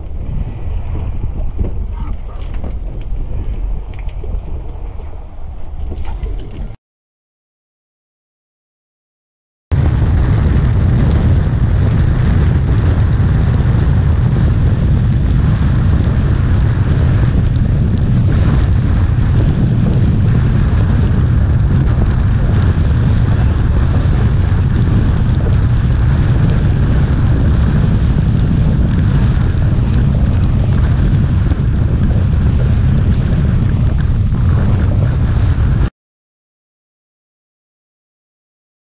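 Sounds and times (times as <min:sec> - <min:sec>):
wind buffeting microphone: 0:00.0 - 0:06.8, 0:09.7 - 0:35.9.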